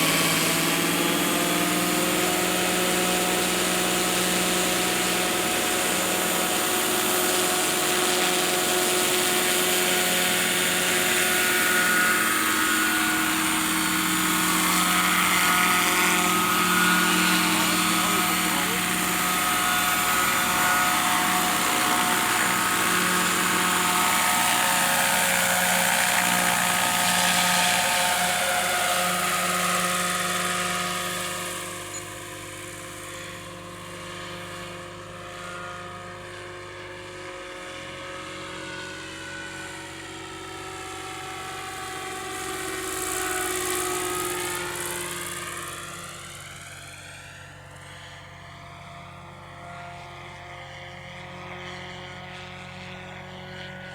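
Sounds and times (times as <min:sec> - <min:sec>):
model helicopter engine and rotor: 0:00.0 - 0:53.9.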